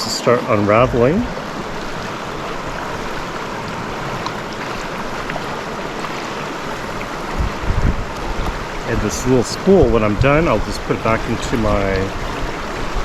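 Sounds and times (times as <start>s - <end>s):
mountain stream running: 0.0s - 13.0s.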